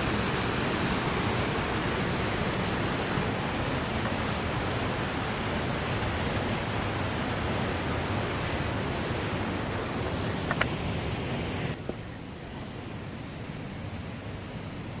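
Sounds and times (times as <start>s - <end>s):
waterfall and rapids rushing: 0.0s - 15.0s.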